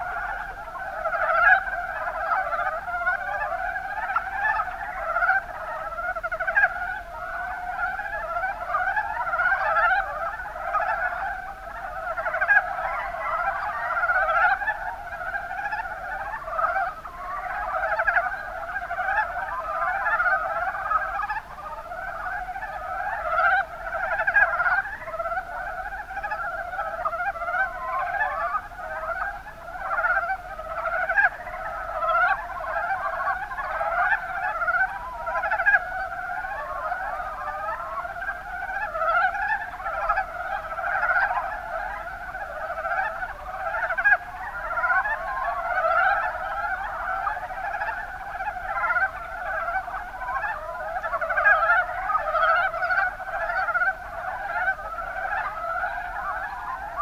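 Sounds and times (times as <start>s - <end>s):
frogs calling in chorus: 0.0s - 57.0s.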